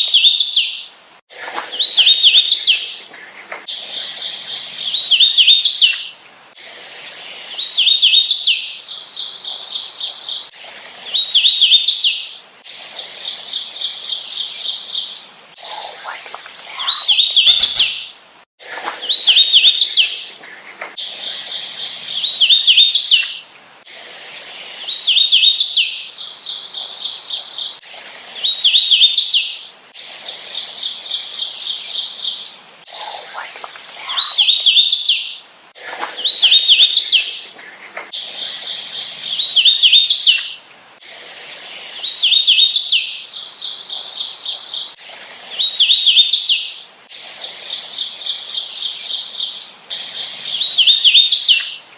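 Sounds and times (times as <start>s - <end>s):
warbler singing whistled notes: 0.0s - 1.0s, 1.7s - 3.1s, 3.7s - 6.2s, 7.3s - 10.5s, 11.1s - 12.4s, 13.2s - 18.3s, 19.0s - 20.4s, 21.0s - 23.5s, 24.7s - 29.7s, 30.6s - 35.5s, 36.1s - 37.6s, 38.2s - 40.6s, 41.8s - 46.9s, 47.7s - 51.9s.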